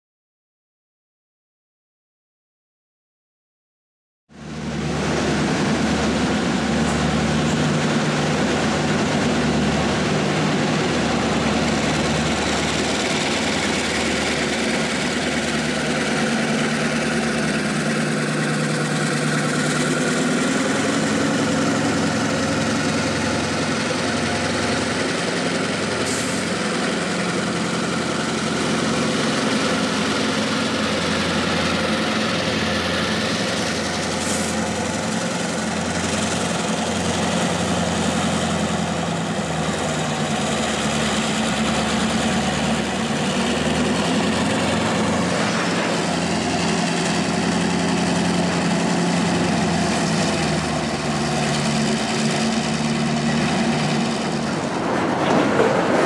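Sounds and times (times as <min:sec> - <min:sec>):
diesel locomotive engines droning: 0:04.3 - 0:56.0.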